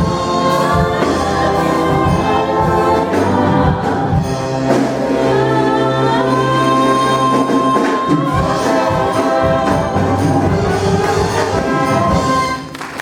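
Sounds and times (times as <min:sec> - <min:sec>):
cast singing with orchestra: 0:00.0 - 0:12.7.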